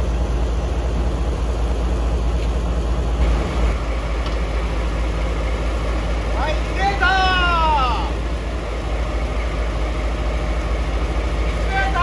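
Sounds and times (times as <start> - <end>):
diesel locomotive engine idling: 0.0 - 12.0.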